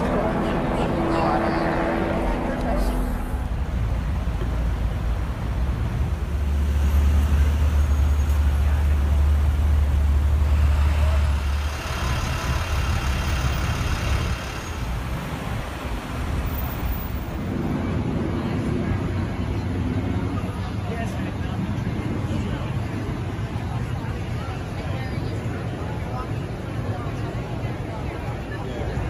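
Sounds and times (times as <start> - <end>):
heavy low rumble: 0.0 - 24.5
car and truck engines passing: 0.0 - 25.1.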